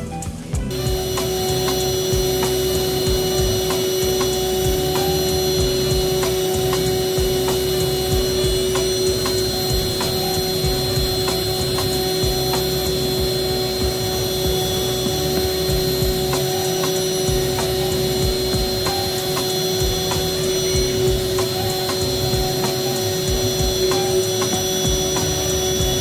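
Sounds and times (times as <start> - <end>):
router spindle whine milling wood: 0.7 - 26.0.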